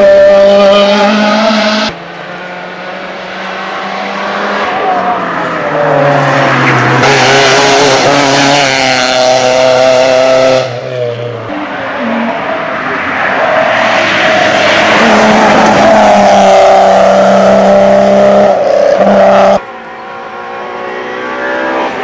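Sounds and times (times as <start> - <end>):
rally car engine at high revs: 0.0 - 22.0
tyre noise cornering: 0.0 - 22.0.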